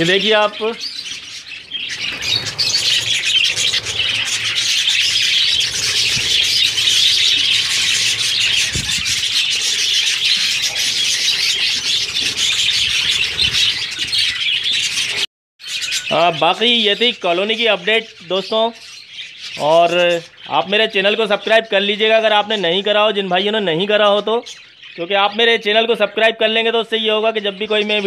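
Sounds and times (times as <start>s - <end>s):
budgerigars chattering and chirping: 0.0s - 26.3s.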